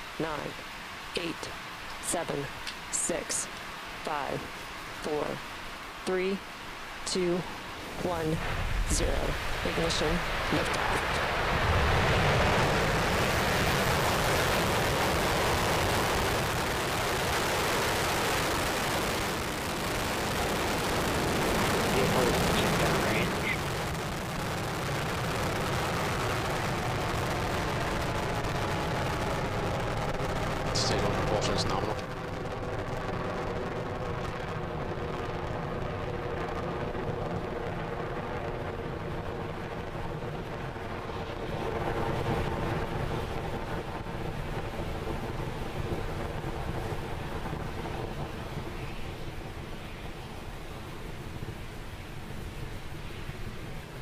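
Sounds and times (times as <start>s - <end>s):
rocket engines roaring: 0.0s - 54.0s.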